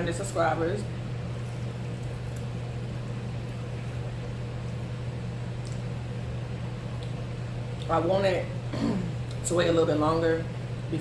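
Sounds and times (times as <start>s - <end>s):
low electrical hum with hiss: 0.0s - 11.0s.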